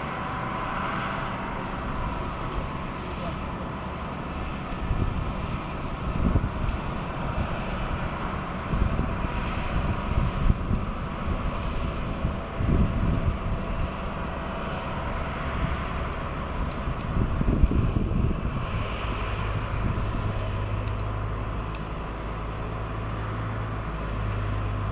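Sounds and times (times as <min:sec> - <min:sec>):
jet engine whine and rumble: 0:00.0 - 0:24.9.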